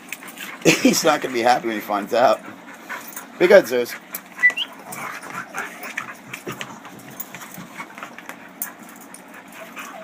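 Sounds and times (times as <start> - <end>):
dogs play-fighting scuffling: 0.0 - 10.0.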